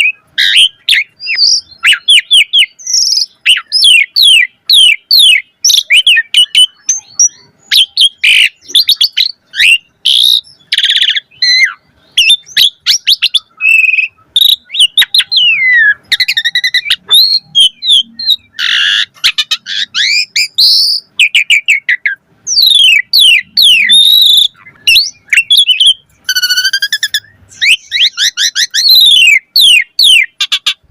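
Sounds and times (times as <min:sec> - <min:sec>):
starling singing: 0:00.0 - 0:30.9.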